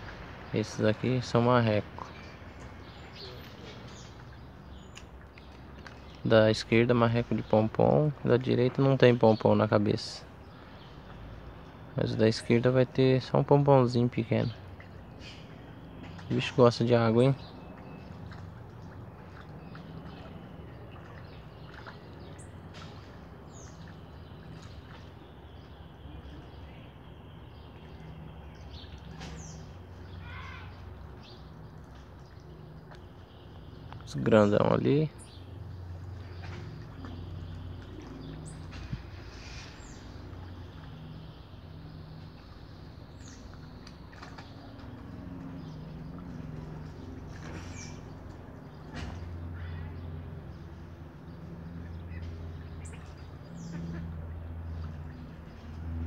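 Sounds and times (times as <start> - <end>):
low outdoor background rumble: 0.0 - 56.0.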